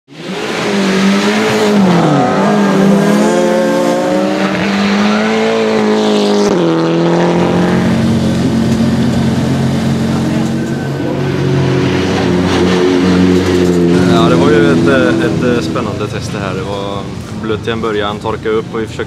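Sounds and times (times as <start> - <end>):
race car engine at high revs: 0.1 - 17.9.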